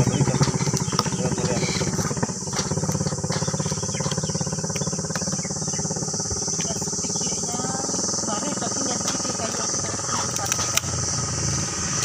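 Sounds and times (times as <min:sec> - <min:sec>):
engine running with fast pulse: 0:00.0 - 0:12.0.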